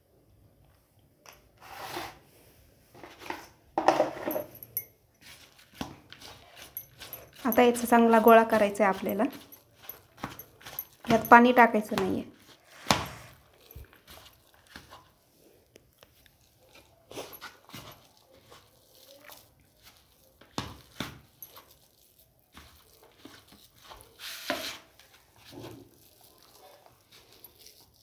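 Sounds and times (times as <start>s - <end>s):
hand kneading dry dough: 5.2s - 28.0s.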